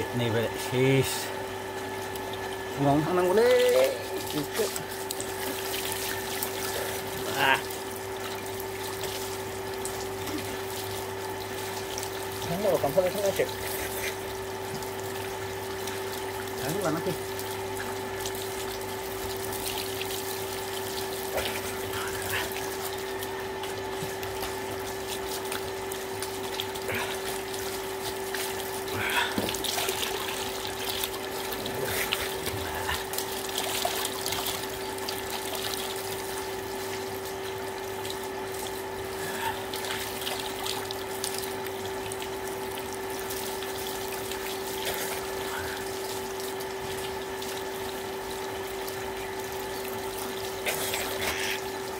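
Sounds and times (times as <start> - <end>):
water pump humming: 0.0 - 51.9
water pouring and splashing: 0.7 - 51.9.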